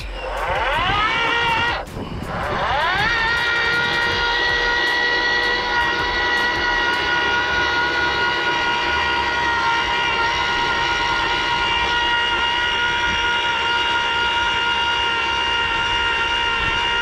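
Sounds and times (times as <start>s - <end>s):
earth auger motor whining: 0.0s - 17.0s.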